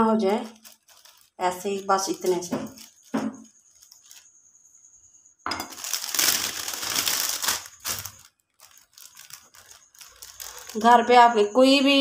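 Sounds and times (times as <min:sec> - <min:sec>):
plastic sheet crinkling: 0:00.0 - 0:04.5, 0:05.5 - 0:11.4.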